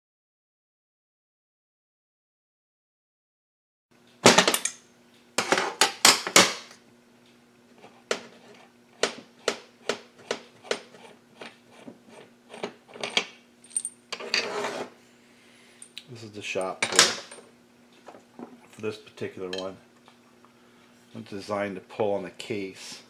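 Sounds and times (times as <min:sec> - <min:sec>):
faint steady hum: 0:04.0 - 0:23.0.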